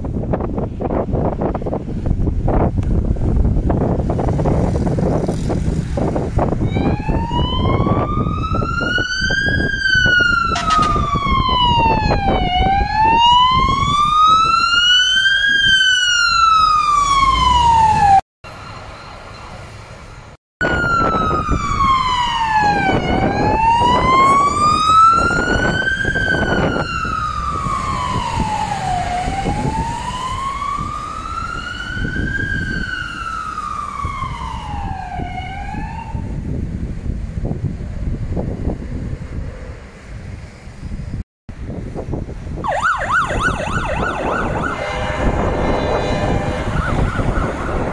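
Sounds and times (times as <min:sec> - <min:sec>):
traffic on a wet road: 0:00.0 - 0:47.9
fire engine siren wailing: 0:03.0 - 0:19.8, 0:20.6 - 0:37.0, 0:42.6 - 0:47.9.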